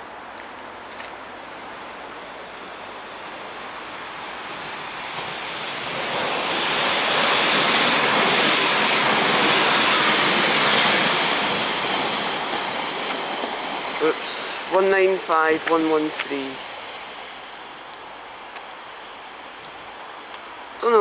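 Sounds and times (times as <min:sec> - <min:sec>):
diesel train approaching: 0:00.0 - 0:20.8.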